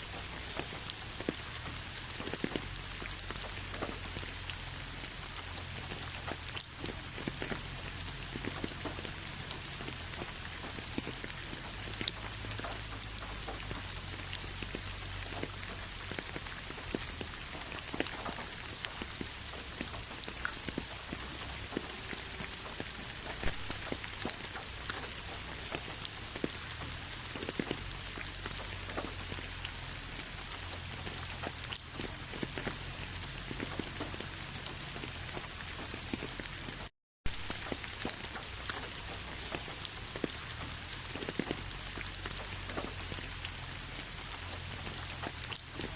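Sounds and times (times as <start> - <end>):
raindrops tapping: 0.0 - 45.9
steady rain: 0.0 - 45.9.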